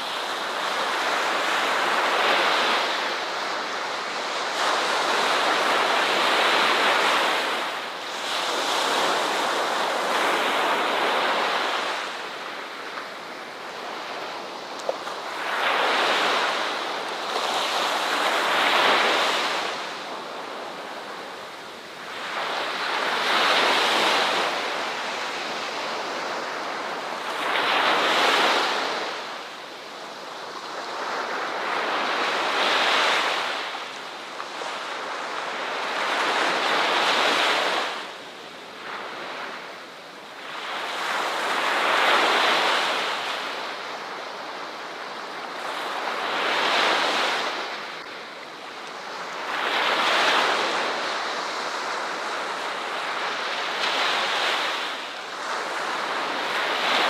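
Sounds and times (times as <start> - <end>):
ocean surf breaking on shore: 0.0 - 57.0.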